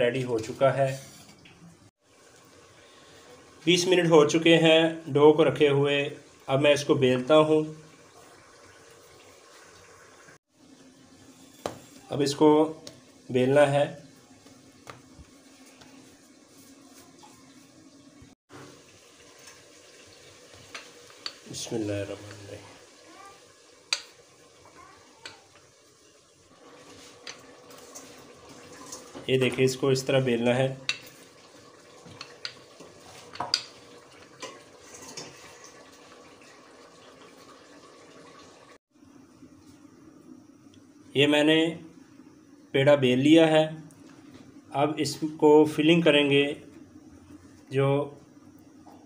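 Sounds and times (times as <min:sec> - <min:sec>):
faint steady hiss: 0:00.0 - 0:49.0.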